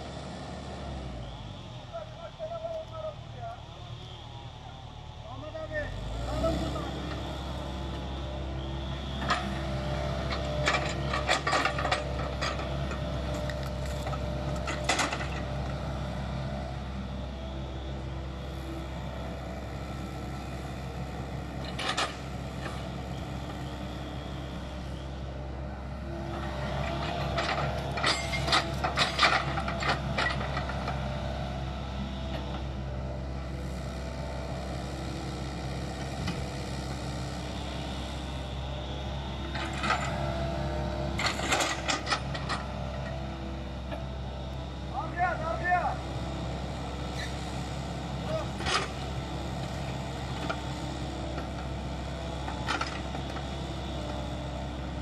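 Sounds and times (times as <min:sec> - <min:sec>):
diesel excavator engine running: 0:00.0 - 0:55.0.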